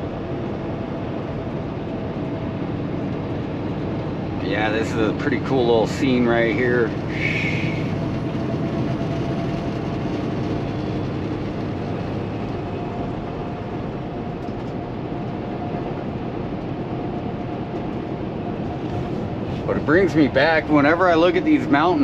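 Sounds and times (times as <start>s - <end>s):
road noise: 0.0s - 22.0s
truck diesel engine: 0.0s - 22.0s.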